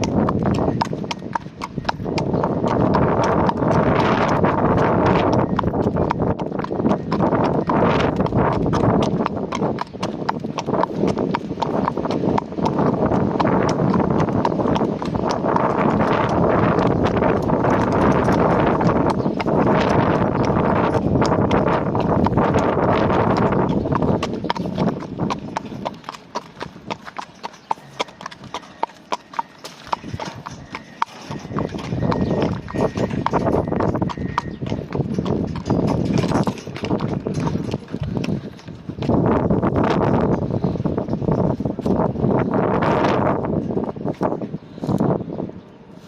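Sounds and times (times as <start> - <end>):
wind on microphone: 0.0 - 29.2, 29.8 - 46.0
horse hooves clip-clopping: 0.0 - 44.4.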